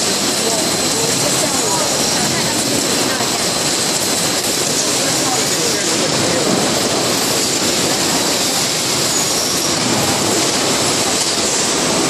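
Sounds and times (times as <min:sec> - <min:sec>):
packing machine hissing: 0:00.0 - 0:12.0.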